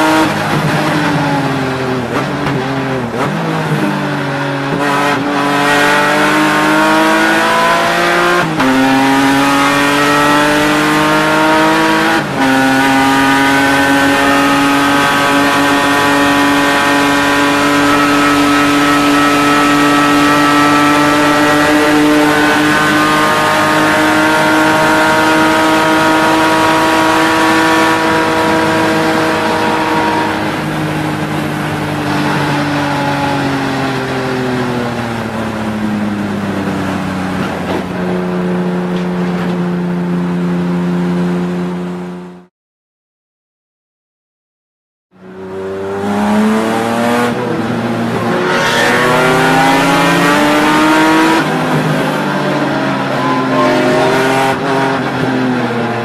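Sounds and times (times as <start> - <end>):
race car engine revving: 0.0 - 42.5, 45.2 - 56.0.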